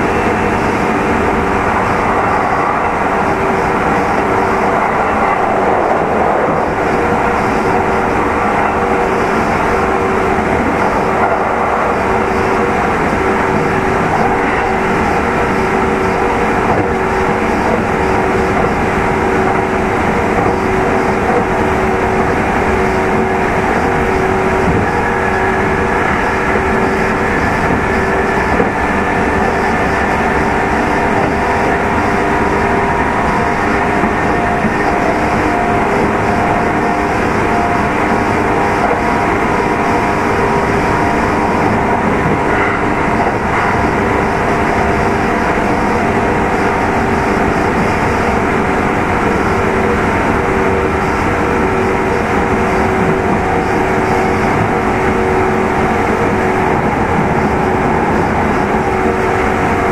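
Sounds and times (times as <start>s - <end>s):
train motor hum and whine: 0.0s - 59.9s
wheel and rail noise: 0.0s - 59.9s.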